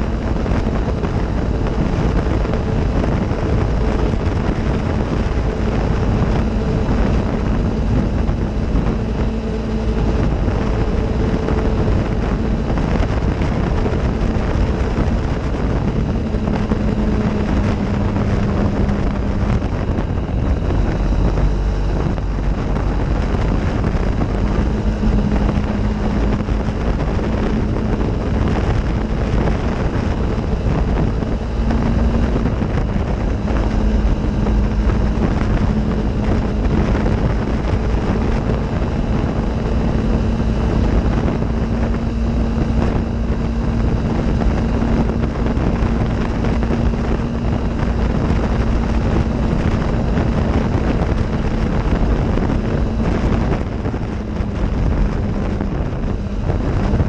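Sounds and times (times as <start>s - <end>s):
vehicle engine running: 0.0s - 57.0s
wind buffeting microphone: 0.0s - 57.0s.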